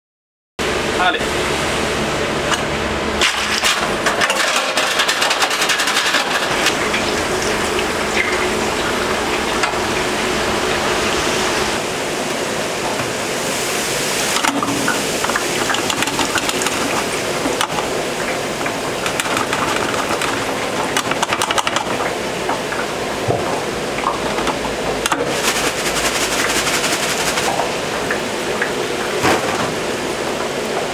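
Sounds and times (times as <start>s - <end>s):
oil sizzling and crackling: 1.4s - 30.9s.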